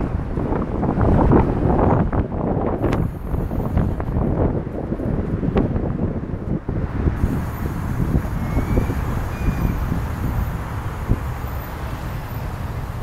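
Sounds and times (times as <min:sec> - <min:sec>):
truck road noise: 0:00.0 - 0:13.0
wind buffeting microphone: 0:00.0 - 0:13.0.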